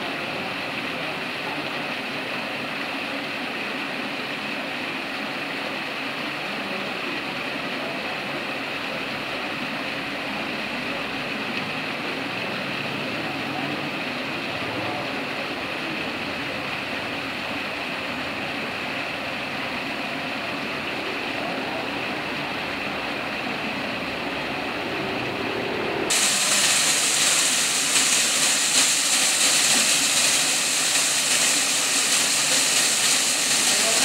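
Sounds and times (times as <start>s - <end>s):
fountain water rushing and splashing: 0.0s - 34.0s.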